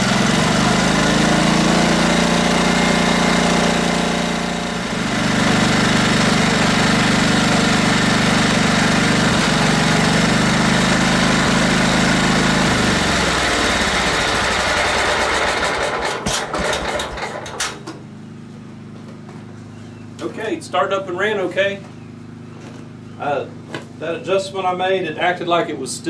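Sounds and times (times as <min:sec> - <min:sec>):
mower engine running and coasting down: 0:00.0 - 0:26.0.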